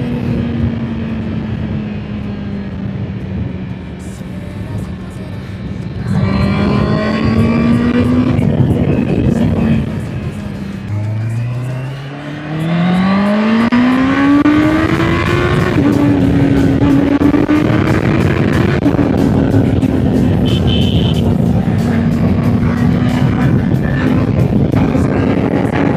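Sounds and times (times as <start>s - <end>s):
motorcycle engine accelerating: 0.0s - 25.9s.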